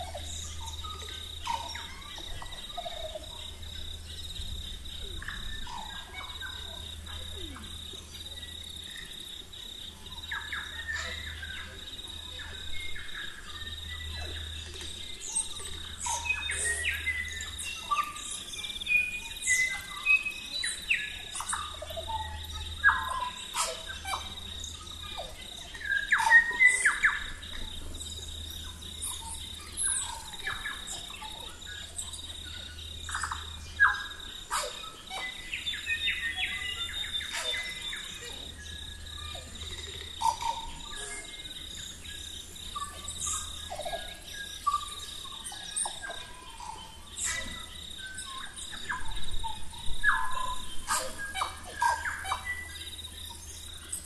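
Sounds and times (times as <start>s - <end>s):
birds chirping and whistling: 0.0s - 9.2s, 10.0s - 54.0s
insect trill: 0.0s - 54.0s.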